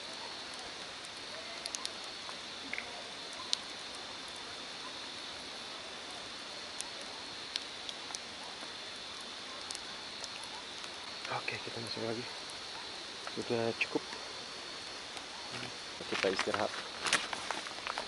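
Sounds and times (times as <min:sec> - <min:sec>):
hiss of rain: 0:00.0 - 0:18.0
insects chirring: 0:00.0 - 0:18.0
raindrops ticking on tent: 0:00.0 - 0:18.0.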